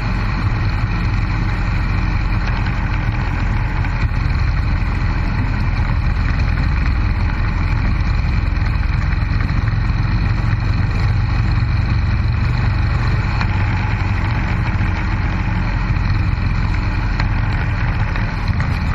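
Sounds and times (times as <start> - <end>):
motorcycle engine cruising: 0.0 - 18.9
road noise: 0.0 - 18.9.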